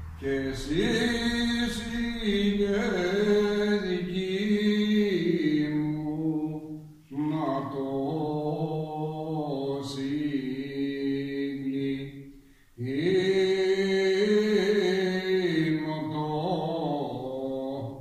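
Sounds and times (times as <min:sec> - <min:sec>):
men singing unaccompanied: 0:00.2 - 0:18.0.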